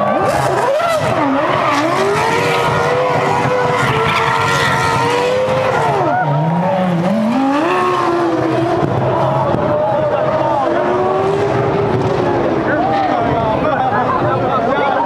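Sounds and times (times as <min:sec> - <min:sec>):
race car engine revving: 0:00.0 - 0:14.8.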